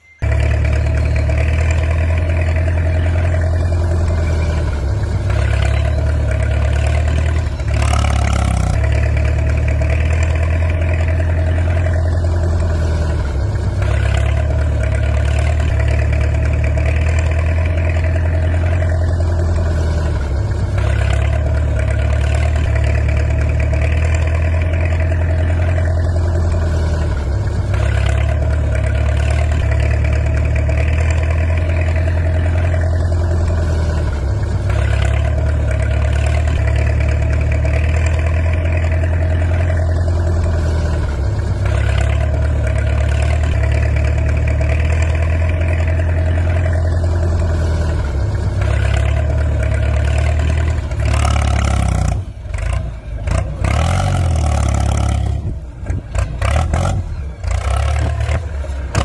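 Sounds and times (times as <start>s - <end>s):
engine running with low hum: 0.0s - 59.0s.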